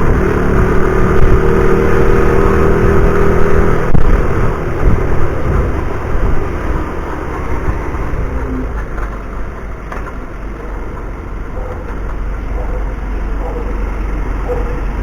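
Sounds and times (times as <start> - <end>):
car engine: 0.0 - 15.0
road rumble: 0.0 - 15.0.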